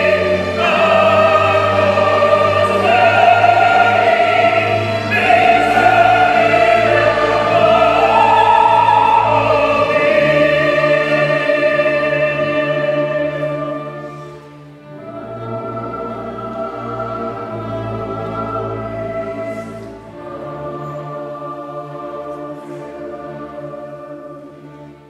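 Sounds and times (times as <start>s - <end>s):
choir singing with orchestra: 0.0s - 25.0s.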